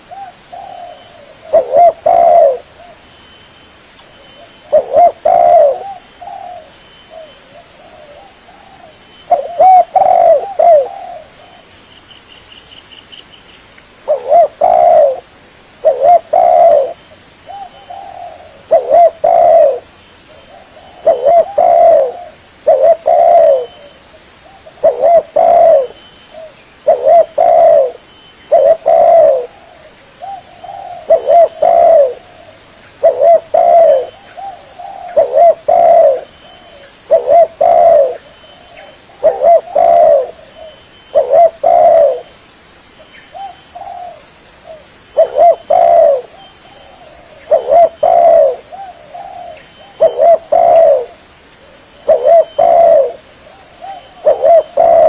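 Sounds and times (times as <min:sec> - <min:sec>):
dove cooing: 0:00.0 - 0:03.0, 0:04.2 - 0:11.7, 0:14.1 - 0:42.4, 0:43.3 - 0:55.0.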